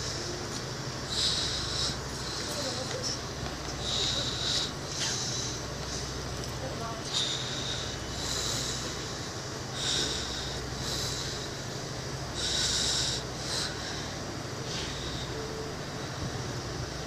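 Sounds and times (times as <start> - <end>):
diesel train hum: 0.0 - 17.0
short hissing bursts: 0.0 - 17.0.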